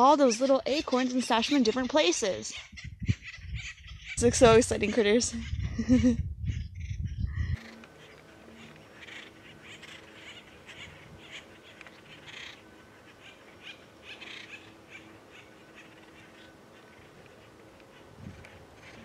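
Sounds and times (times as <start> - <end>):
woodpeckers calling: 0.0 - 4.2, 6.6 - 19.0.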